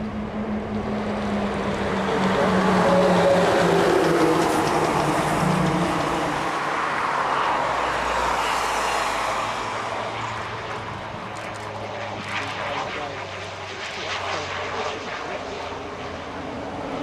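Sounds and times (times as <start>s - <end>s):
turboprop plane passing low: 0.0s - 17.0s.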